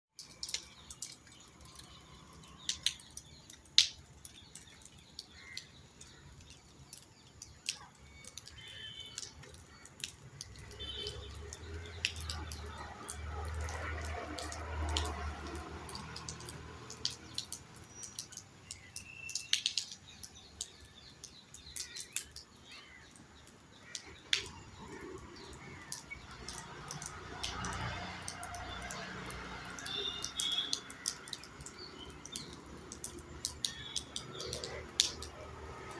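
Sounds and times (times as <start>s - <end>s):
raindrops dripping: 0.1s - 35.9s
birds chirping: 0.2s - 35.9s.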